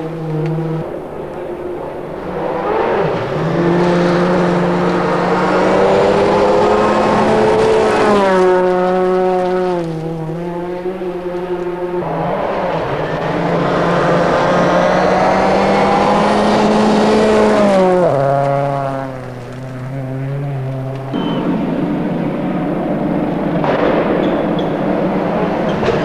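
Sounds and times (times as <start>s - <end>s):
rally car engines passing: 0.0s - 26.0s.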